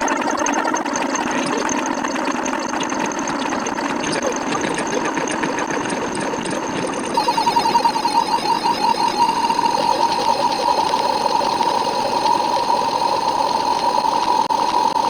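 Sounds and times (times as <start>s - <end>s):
fast mechanical rattle: 0.0s - 15.0s
pulsing tone: 0.0s - 15.0s.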